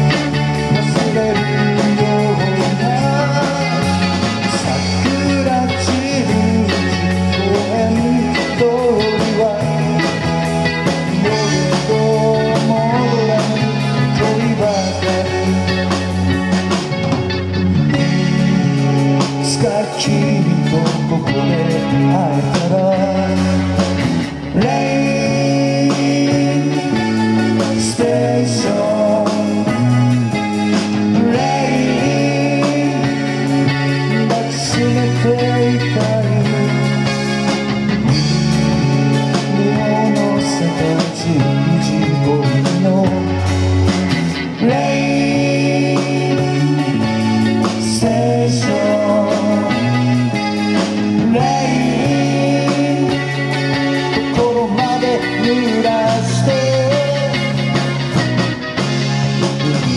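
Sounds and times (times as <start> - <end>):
live band playing amplified music: 0.0 - 59.9.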